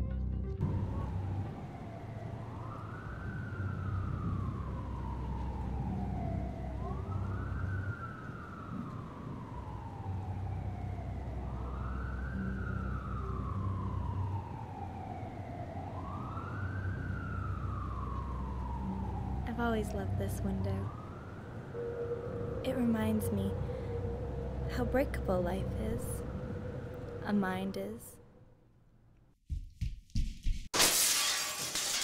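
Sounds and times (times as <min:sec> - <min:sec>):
steady low rumble: 0:00.0 - 0:28.4
wailing siren: 0:00.6 - 0:28.5.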